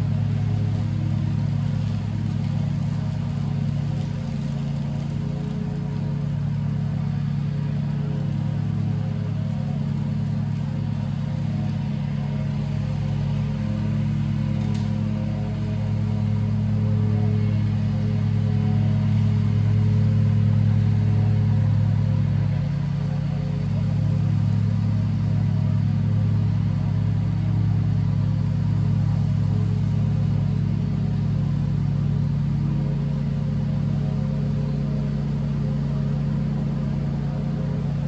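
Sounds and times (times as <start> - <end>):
lawn mower engine running: 0.0 - 38.0.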